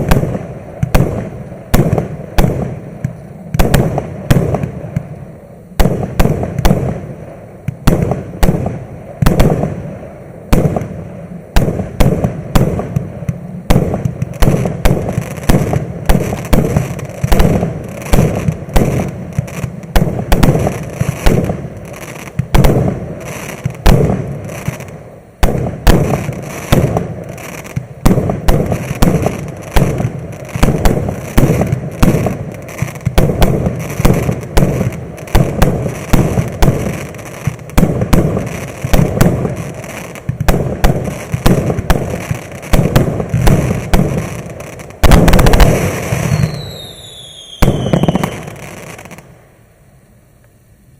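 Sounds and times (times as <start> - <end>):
fireworks bangs: 0.0 - 49.3.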